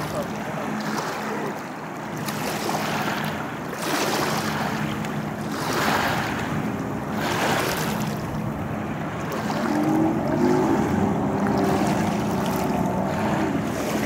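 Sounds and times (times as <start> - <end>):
boat engine hum: 0.0 - 14.0
water washing and splashing: 0.0 - 14.0.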